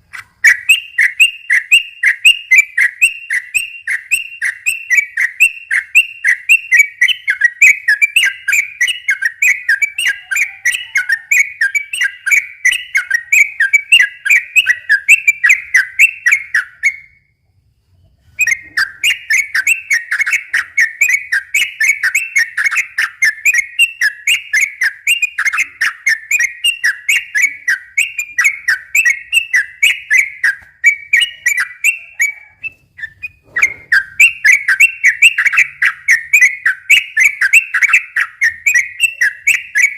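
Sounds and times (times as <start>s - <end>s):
bulbul singing rapid whistled chirps: 0.0s - 17.4s, 18.4s - 39.9s.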